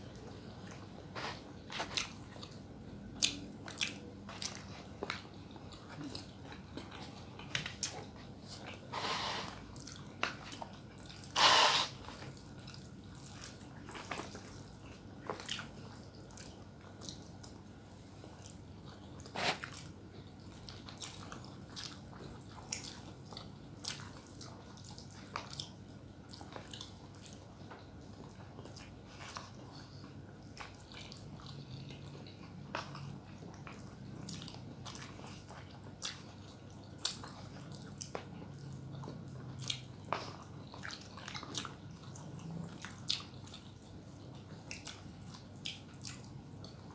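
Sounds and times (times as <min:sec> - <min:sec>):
person chewing with mouth clicks: 0:00.2 - 0:46.9.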